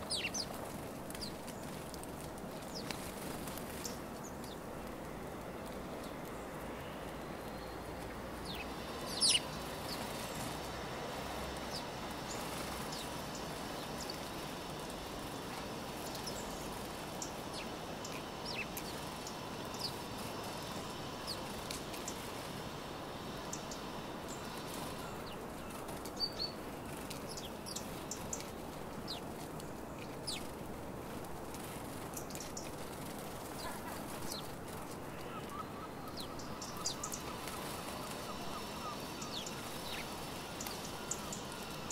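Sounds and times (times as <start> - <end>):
sparrows chirping: 0.0 - 4.7, 6.0 - 30.6, 31.6 - 41.9
steady background noise: 0.0 - 41.9
wing flutters: 0.0 - 41.9.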